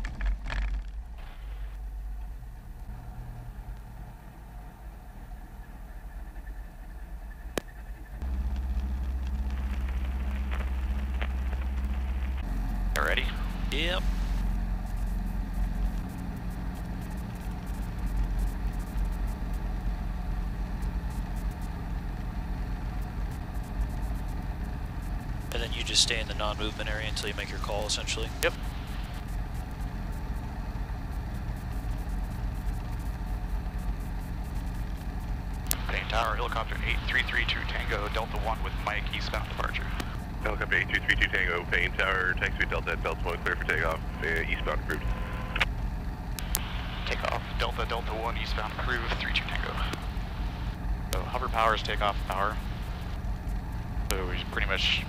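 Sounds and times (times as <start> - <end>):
helicopter engine idling: 1.2 - 55.0.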